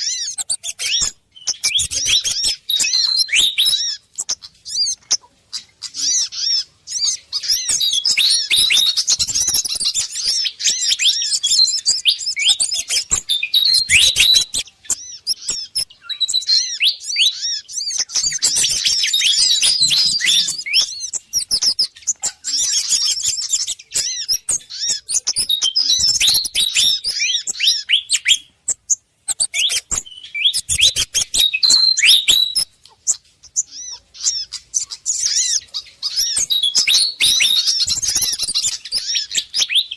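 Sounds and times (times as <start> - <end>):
small songbirds chirping agitatedly: 0.0 - 39.9.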